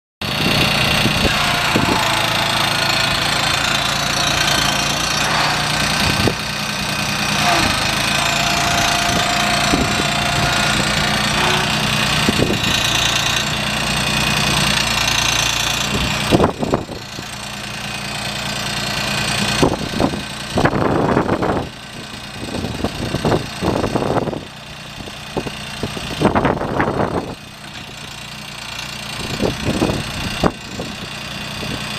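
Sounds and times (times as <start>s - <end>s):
diesel mower engine running: 0.2s - 31.9s.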